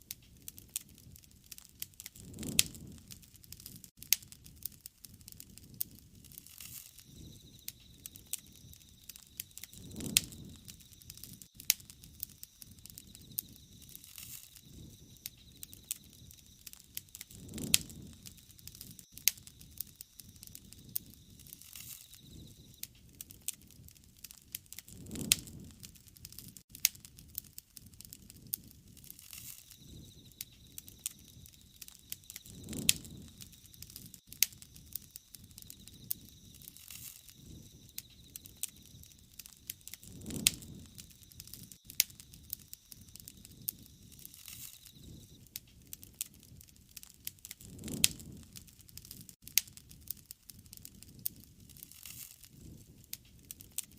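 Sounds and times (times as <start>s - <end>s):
campfire crackling and popping: 0.0s - 53.9s
low flame whoosh: 2.1s - 23.9s, 24.9s - 46.6s, 47.6s - 49.2s.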